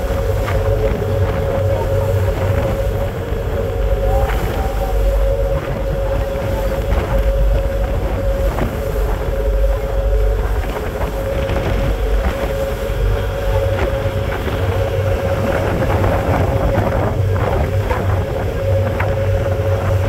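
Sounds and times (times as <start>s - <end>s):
ferry engines droning: 0.0s - 20.0s
wind buffeting microphone: 0.0s - 20.0s.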